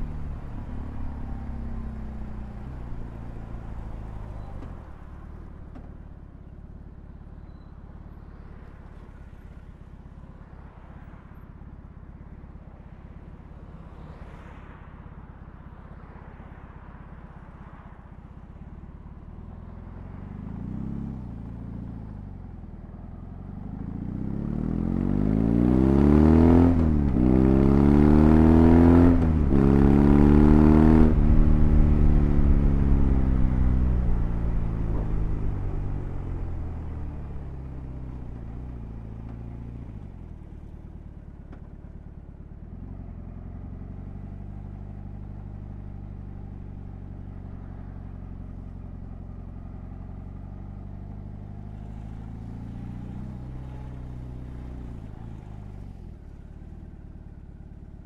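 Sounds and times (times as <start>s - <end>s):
motorcycle engine accelerating: 0.0s - 9.1s, 18.9s - 58.0s.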